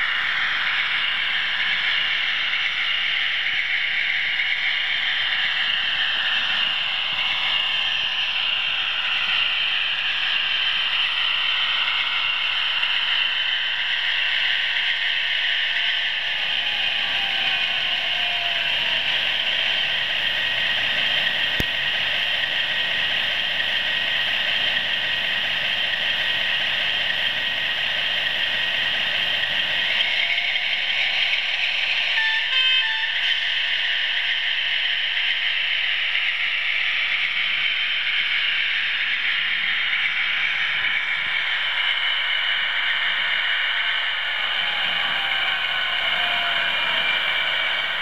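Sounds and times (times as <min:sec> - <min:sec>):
model trains whirring and rattling: 0:00.0 - 0:48.0.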